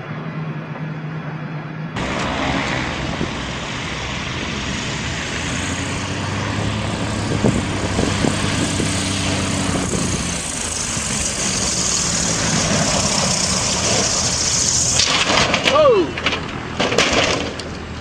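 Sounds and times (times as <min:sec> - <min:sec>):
propeller aircraft engine: 0:00.0 - 0:15.6
rushing noise: 0:00.0 - 0:18.0.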